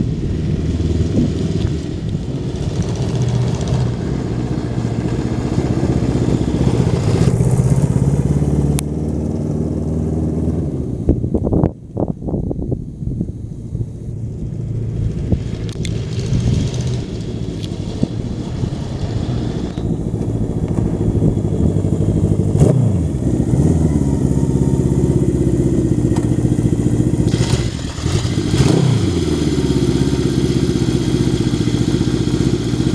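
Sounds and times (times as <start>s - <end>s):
motorcycle engine revving: 0.0s - 11.6s, 13.5s - 32.9s.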